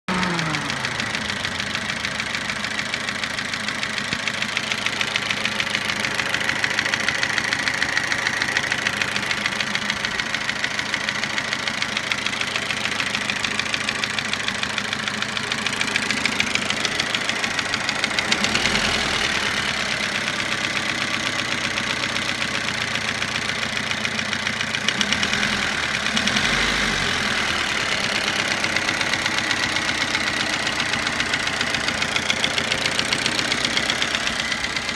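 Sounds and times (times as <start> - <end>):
car engine idling with knock: 0.1 - 34.9.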